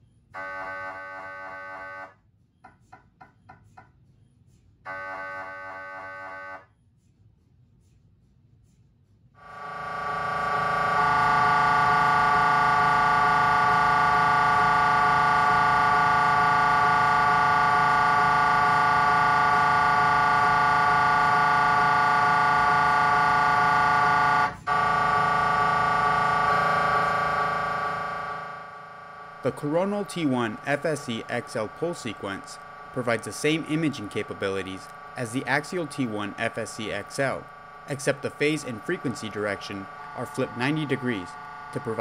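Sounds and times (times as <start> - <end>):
mri scanner droning: 0.0 - 2.2, 4.9 - 6.7, 9.4 - 42.0.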